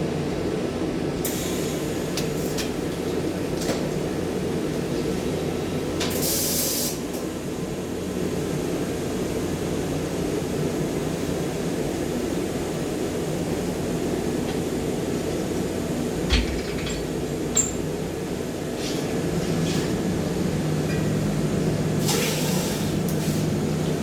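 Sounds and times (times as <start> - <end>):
workshop machinery drone: 0.0 - 24.0.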